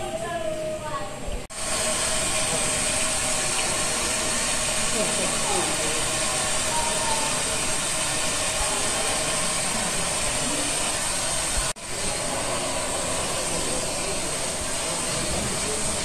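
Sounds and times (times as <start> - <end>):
model trains whirring: 1.5 - 16.0.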